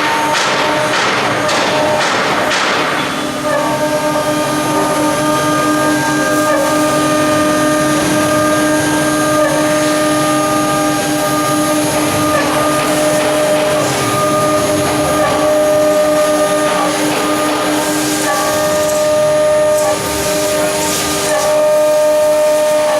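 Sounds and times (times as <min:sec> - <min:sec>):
router spindle high whine: 0:03.1 - 0:22.9.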